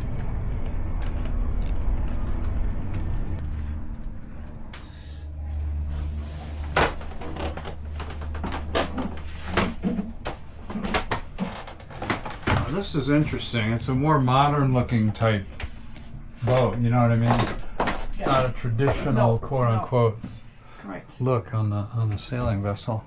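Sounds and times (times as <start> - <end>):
low rumble: 0.0 - 20.7.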